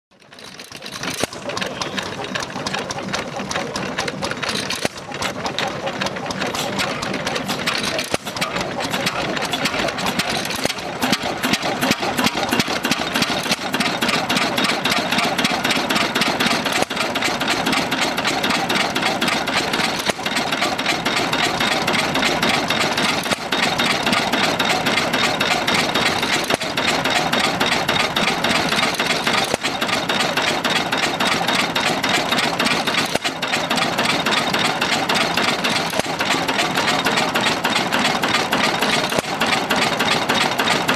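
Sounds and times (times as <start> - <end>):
stationary diesel engine running: 0.1 - 40.9.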